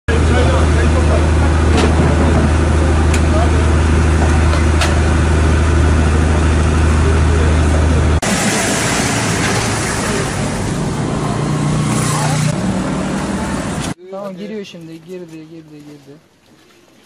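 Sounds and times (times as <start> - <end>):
engine idling drone: 0.1 - 14.0.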